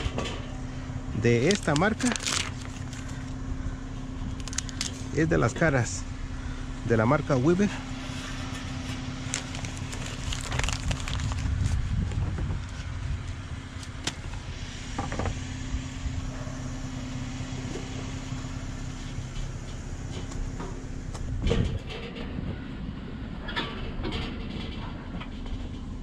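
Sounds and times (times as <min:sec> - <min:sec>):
vehicle idling hum: 0:00.0 - 0:26.0.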